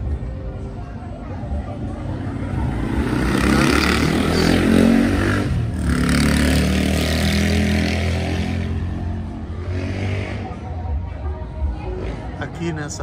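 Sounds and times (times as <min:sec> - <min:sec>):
distant amplified party music: 0:00.0 - 0:13.0.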